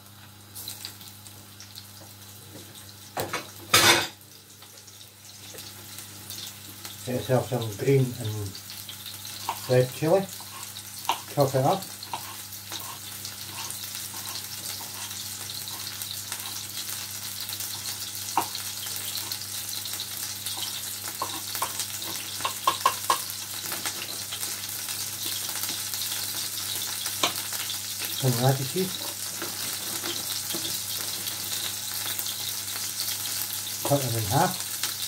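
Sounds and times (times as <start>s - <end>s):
fish sizzling in a pan: 0.0s - 35.0s.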